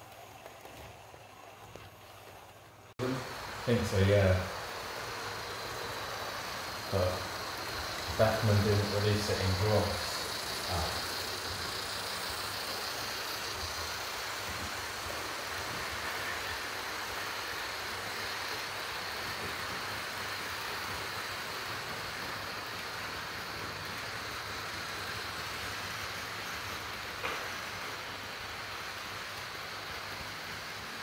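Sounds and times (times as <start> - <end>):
model train wheels rolling on track: 0.0 - 31.0.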